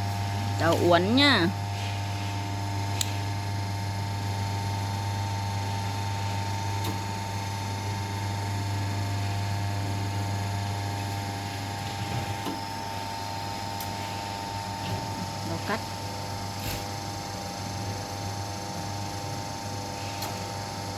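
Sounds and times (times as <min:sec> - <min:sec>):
electric motor and pump humming: 0:00.0 - 0:20.9.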